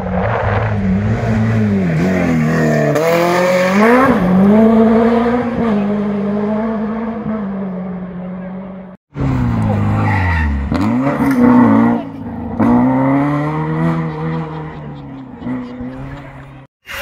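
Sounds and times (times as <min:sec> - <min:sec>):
rally car engine revving: 0:00.0 - 0:16.7.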